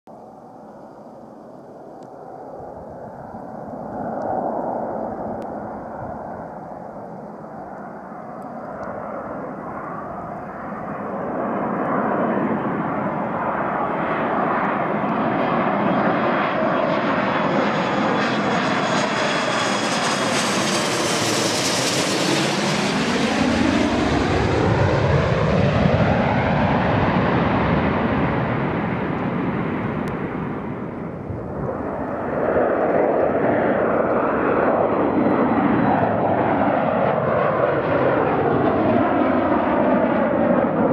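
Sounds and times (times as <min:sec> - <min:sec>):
jet engines at takeoff power: 0:00.1 - 0:40.9
jet engines on landing approach: 0:00.1 - 0:40.9.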